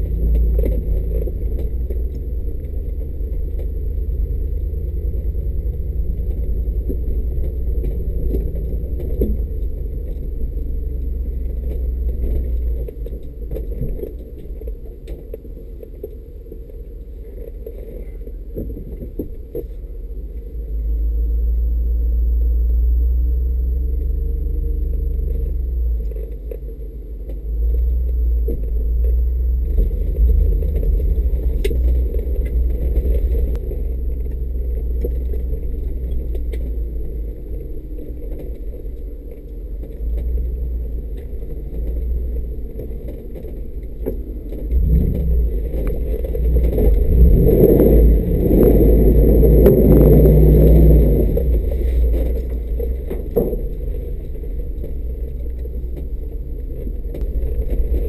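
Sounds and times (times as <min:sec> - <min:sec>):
suv engine low rumble: 0:00.0 - 0:58.0
tyres crunching and body rattling: 0:00.0 - 0:58.0.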